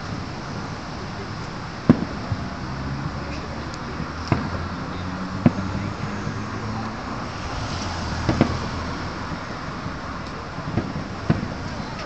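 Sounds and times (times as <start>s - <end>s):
firework bangs: 0.0s - 12.0s
road traffic engines: 0.0s - 12.0s.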